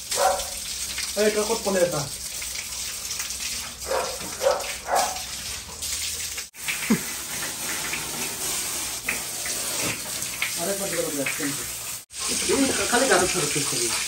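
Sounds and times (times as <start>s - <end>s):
water spraying from a hose: 0.0s - 14.0s.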